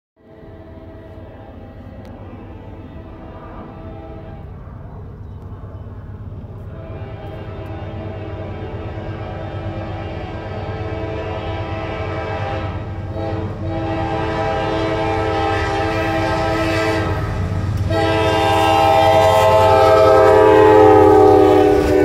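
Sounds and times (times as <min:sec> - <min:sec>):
locomotive air horn: 0:00.2 - 0:04.6, 0:06.6 - 0:22.0
train rumble: 0:00.2 - 0:22.0.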